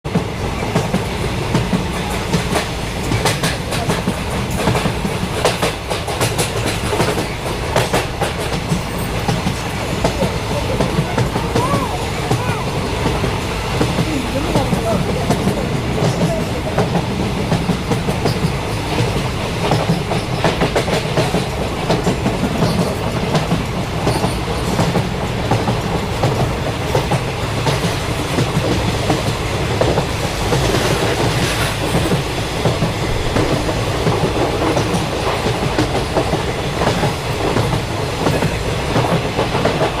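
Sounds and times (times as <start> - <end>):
train wheels clacking on rails: 0.0 - 40.0.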